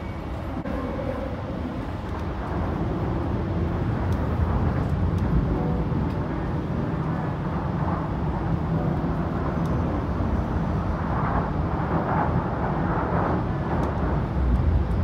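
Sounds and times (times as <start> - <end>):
train rumbling over bridge: 0.0 - 15.0.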